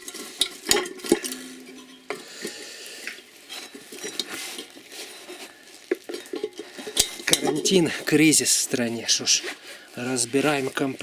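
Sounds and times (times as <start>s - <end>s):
hand tools scraping metal: 0.0s - 8.8s.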